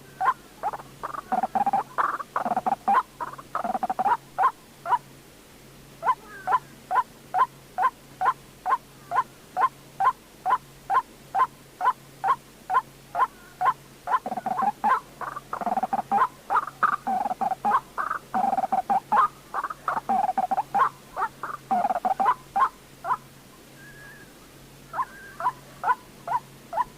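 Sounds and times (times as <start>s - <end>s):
waterhen calling: 0.0s - 5.1s, 6.0s - 26.9s.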